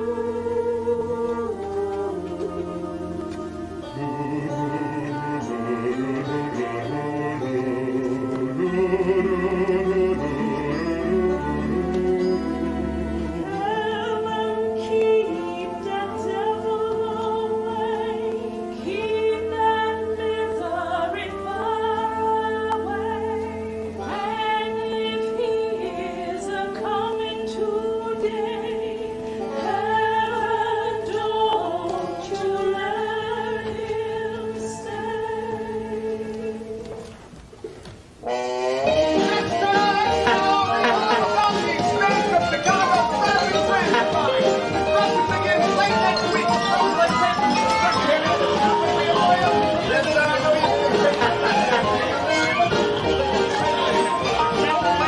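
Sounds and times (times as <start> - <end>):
singing with accompaniment: 0.0 - 55.0.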